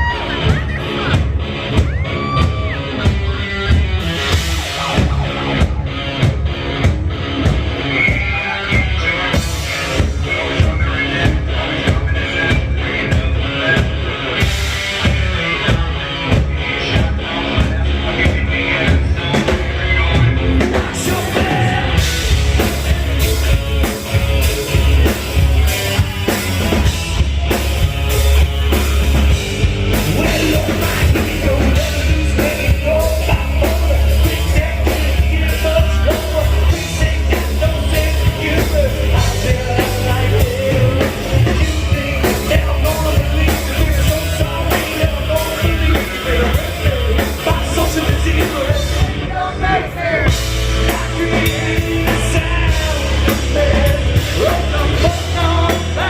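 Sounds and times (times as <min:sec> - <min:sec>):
hard rock band playing: 0:00.0 - 0:56.0.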